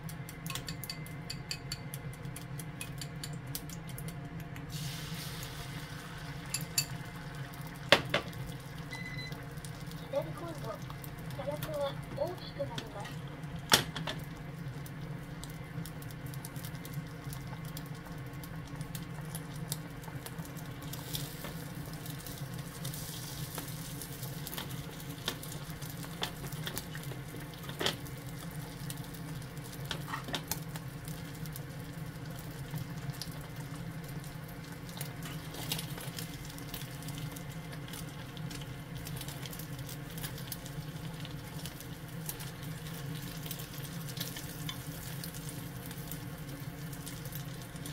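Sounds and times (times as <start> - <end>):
egg sizzling in a pan: 0.0 - 47.9
steady low hum: 0.0 - 47.9.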